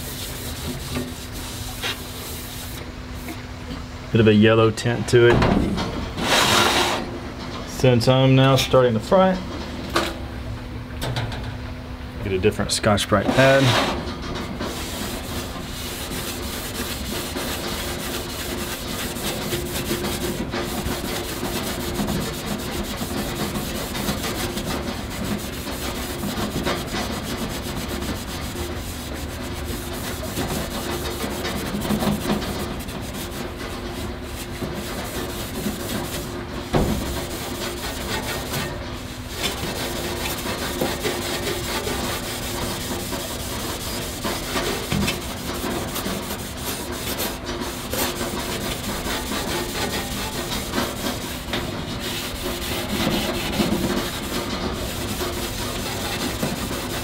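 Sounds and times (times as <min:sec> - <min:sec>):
pad scrubbing stainless steel: 0:00.0 - 0:02.8, 0:12.8 - 0:57.0.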